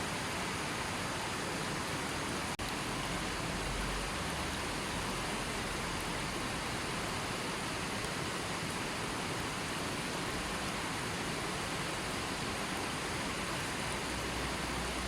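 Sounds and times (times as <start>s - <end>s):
river stream flowing: 0.0s - 15.0s.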